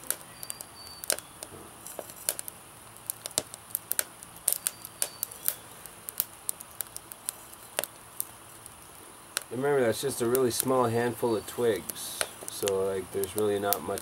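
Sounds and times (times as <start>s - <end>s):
twig fire crackling and popping: 0.0s - 14.0s.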